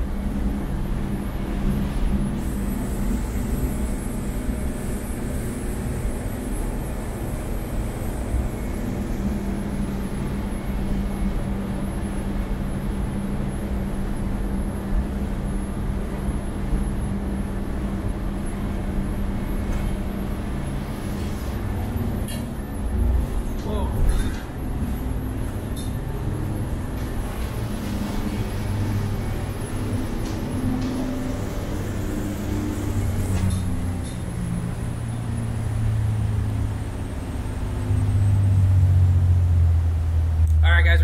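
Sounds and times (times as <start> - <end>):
boat diesel engines running: 0.0 - 41.0.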